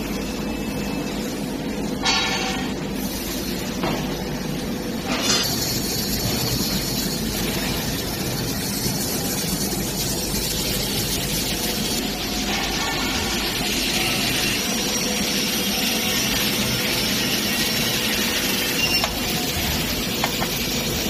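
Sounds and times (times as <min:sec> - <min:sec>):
coffee roaster blower and burner rush: 0:00.0 - 0:21.0.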